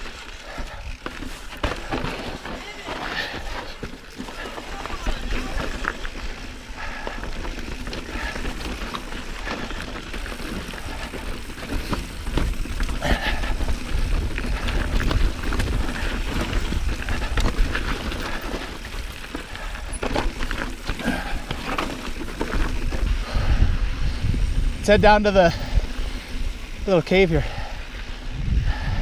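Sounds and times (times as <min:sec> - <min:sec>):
bike tyres crunching on gravel: 0:00.0 - 0:28.9
bike clicks and rattles: 0:00.0 - 0:29.0.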